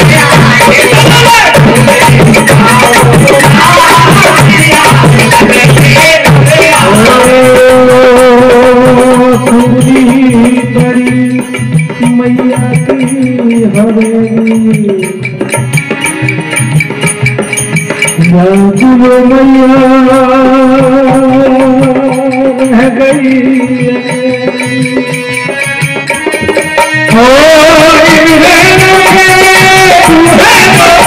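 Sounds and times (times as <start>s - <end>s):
jingling rattle percussion: 0.0s - 19.3s, 21.1s - 31.0s
devotional singing melody: 0.0s - 31.0s.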